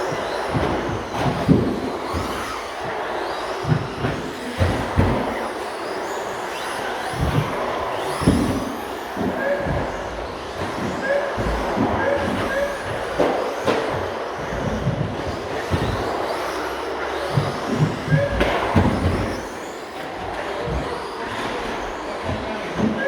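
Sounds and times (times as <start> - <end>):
rc truck motors whining: 0.0 - 23.0.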